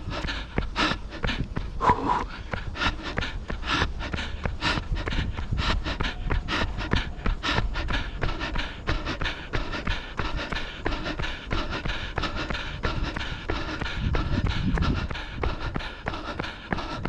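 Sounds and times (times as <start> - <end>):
hard rhythmic breathing: 0.0 - 17.0
running footfalls: 0.0 - 17.0
wind rumble on microphone: 0.0 - 17.0.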